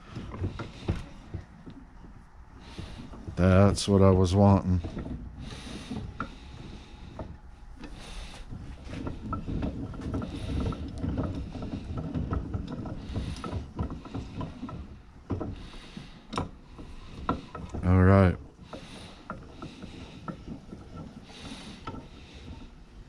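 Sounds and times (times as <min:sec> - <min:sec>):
small metal clicks and rattles: 0:00.0 - 0:22.8.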